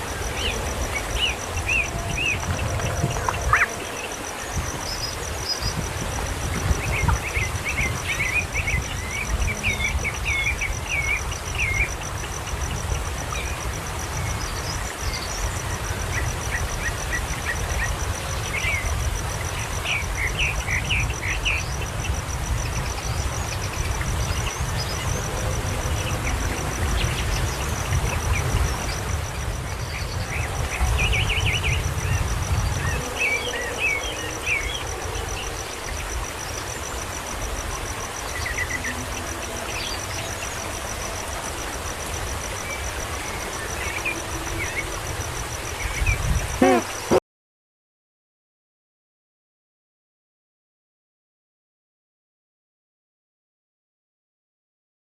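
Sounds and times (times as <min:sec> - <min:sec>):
high pulsing insect trill: 0:00.0 - 0:47.2.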